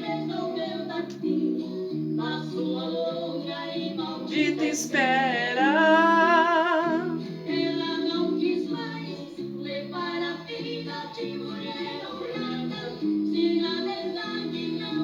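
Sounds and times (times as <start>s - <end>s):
two men singing in harmony: 0.0s - 15.0s.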